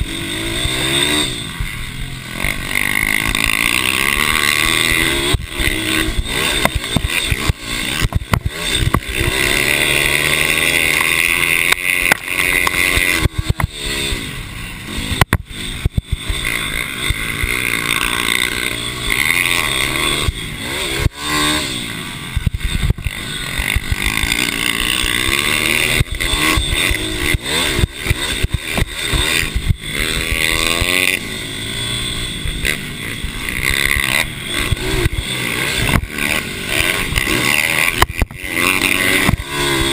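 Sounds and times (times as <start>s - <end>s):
mini bike engines revving: 0.0s - 39.9s.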